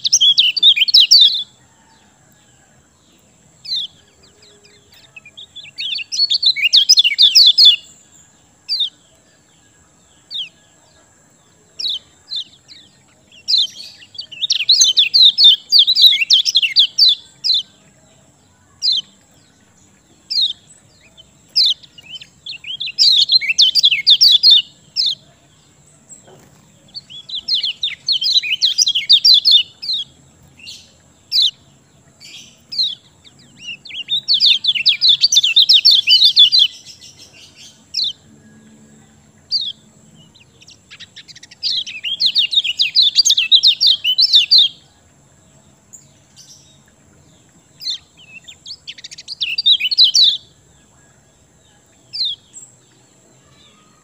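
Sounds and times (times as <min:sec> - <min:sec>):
bird chattering song: 0:00.0 - 0:02.0, 0:03.2 - 0:54.0
sharp bird chirps: 0:00.0 - 0:02.0, 0:03.4 - 0:09.6, 0:11.8 - 0:38.4, 0:39.4 - 0:45.0, 0:47.8 - 0:51.2.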